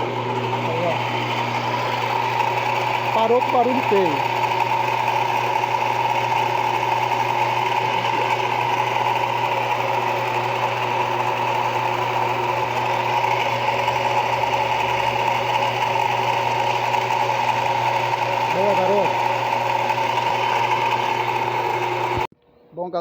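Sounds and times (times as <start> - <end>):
washing machine motor whirring: 0.0 - 22.3.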